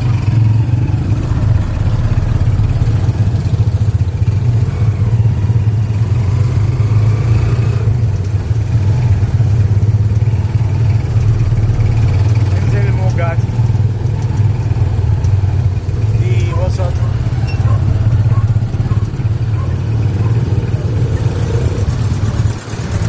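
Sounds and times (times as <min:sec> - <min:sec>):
small motorcycle engine droning: 0:00.0 - 0:23.0.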